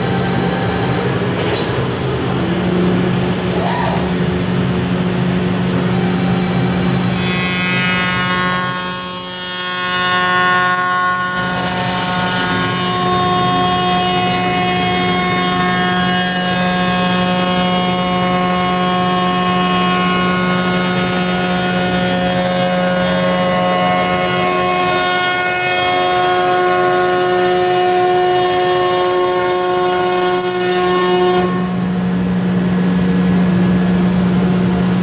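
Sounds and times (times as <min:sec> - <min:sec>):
woodworking machine drone: 0:00.0 - 0:35.0.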